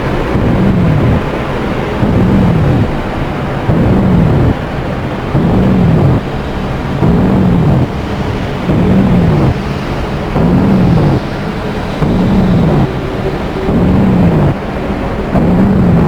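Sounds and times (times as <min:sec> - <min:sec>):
dark ambient synthesizer drone: 0:00.0 - 0:16.0.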